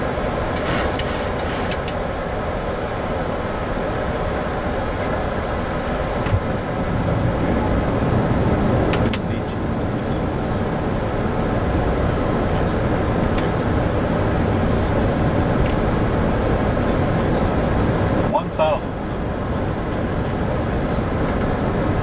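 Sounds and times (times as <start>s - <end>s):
rushing cockpit noise in flight: 0.0s - 22.0s.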